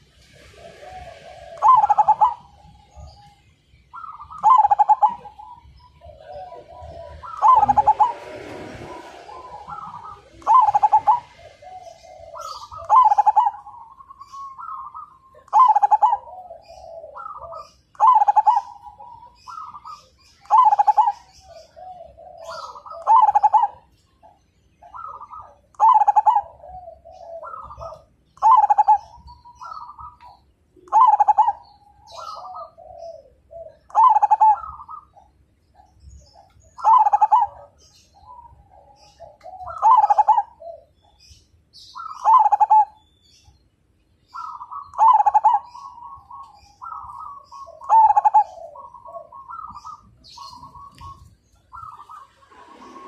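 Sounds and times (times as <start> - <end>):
dove cooing: 0.0 - 43.5, 44.3 - 53.0.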